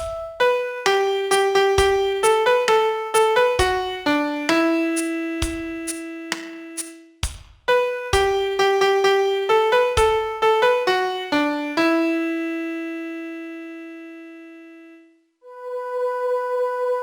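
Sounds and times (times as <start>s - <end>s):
piano melody: 0.0s - 7.1s, 7.7s - 14.7s.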